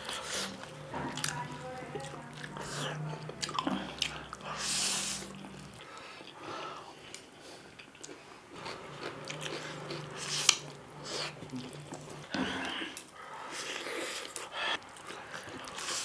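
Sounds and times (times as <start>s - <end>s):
people slurping noodles: 0.0s - 1.3s, 2.4s - 16.0s
chewing: 0.0s - 16.0s.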